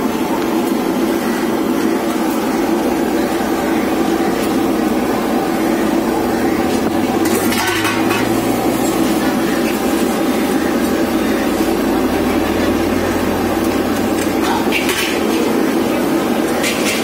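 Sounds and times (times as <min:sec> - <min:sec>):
busy street traffic: 0:00.0 - 0:17.0
vehicle engine hum: 0:00.0 - 0:17.0.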